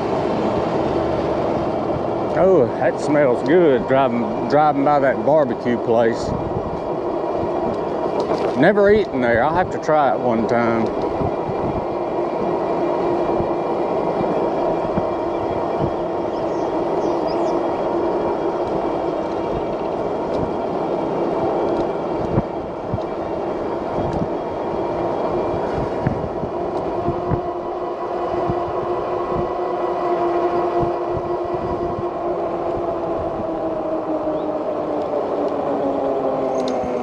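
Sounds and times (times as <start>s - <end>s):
tyre and road noise: 0.0s - 37.0s
wind on microphone: 0.0s - 37.0s.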